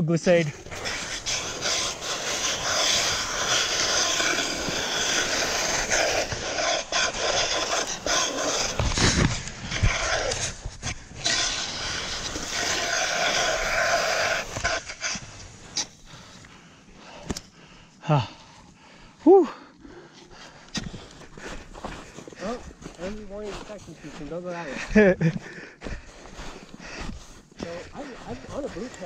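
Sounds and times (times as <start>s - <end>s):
body sliding on snow: 0.4s - 16.1s, 20.8s - 29.0s.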